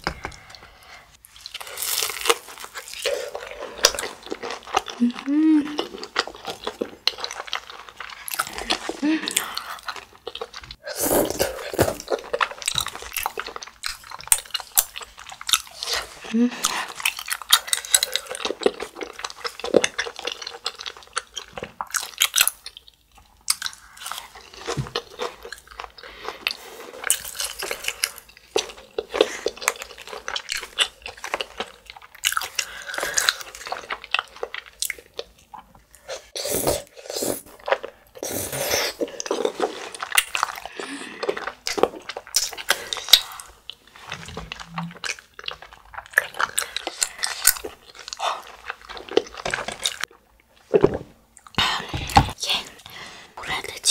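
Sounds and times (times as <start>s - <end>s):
person chewing and mouth smacking: 0.0s - 53.9s.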